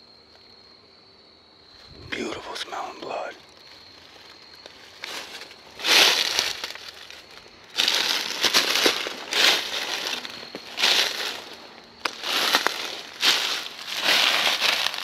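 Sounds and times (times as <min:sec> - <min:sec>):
footsteps crunching dry leaves: 0:01.8 - 0:15.0.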